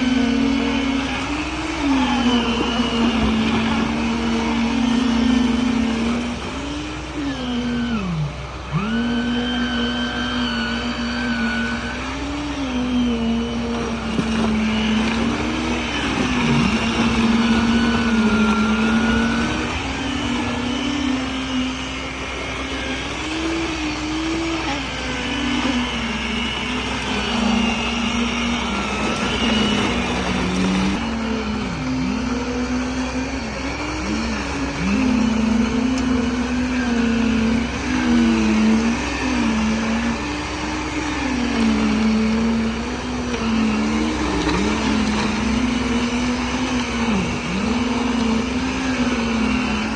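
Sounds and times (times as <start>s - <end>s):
motor running under changing load: 0.0s - 49.9s.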